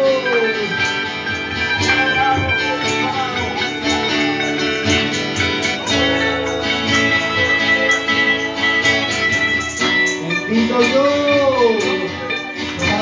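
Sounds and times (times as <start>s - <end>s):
acoustic guitar strummed: 0.0s - 13.0s
small plucked string instrument: 0.0s - 13.0s.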